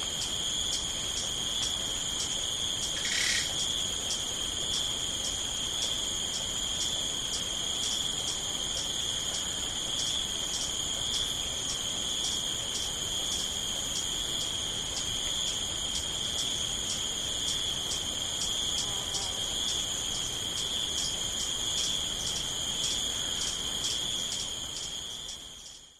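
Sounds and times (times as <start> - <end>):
cricket chirps: 0.0 - 25.9
insects trilling: 0.0 - 25.9.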